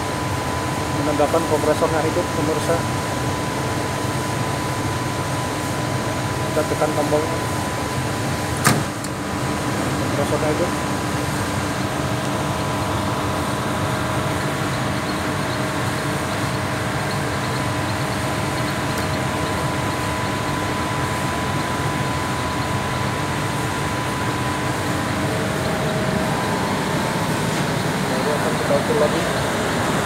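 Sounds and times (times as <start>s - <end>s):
air conditioner blower rush: 0.0s - 30.0s.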